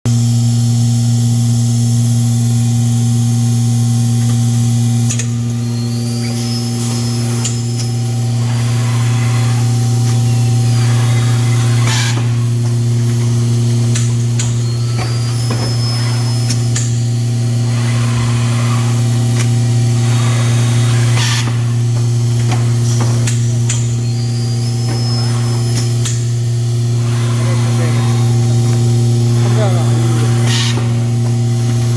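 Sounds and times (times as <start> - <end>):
machine electric hum: 0.1 - 31.9
mechanism clicks: 6.2 - 31.9.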